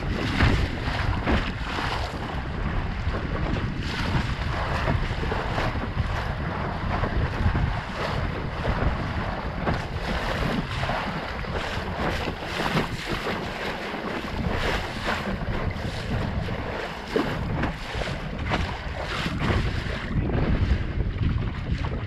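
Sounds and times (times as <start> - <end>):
bow slapping waves: 0.0 - 22.0
water rushing along hull: 0.0 - 22.0
wind buffeting microphone: 0.0 - 22.0.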